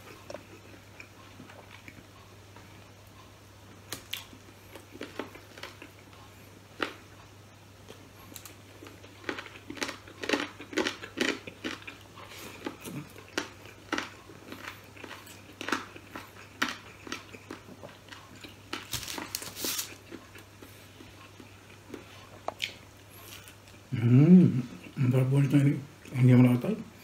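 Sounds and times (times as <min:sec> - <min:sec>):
man chewing food: 0:00.0 - 0:25.1.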